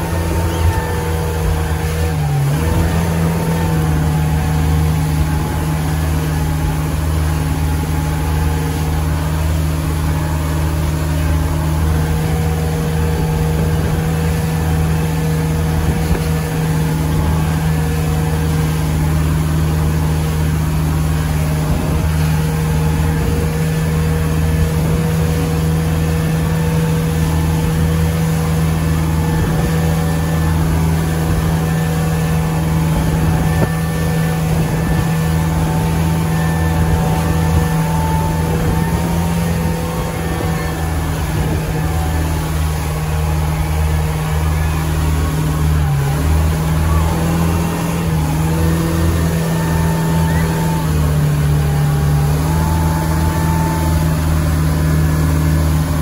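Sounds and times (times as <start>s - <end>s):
motorboat engine drone: 0.0s - 56.0s
rushing water from wake: 0.0s - 56.0s.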